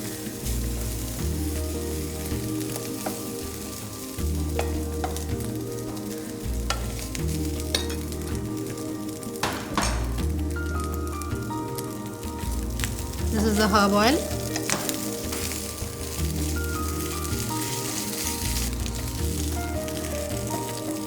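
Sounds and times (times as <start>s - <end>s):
rice sizzling in pan: 0.0s - 21.0s.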